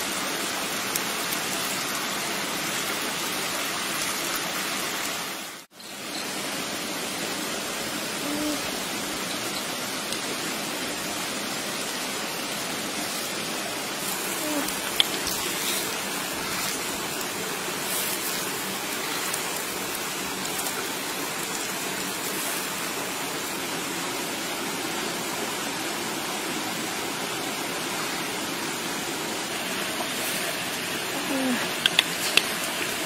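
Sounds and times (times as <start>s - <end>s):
stream flowing over rocks: 0.0s - 8.0s, 8.6s - 33.0s.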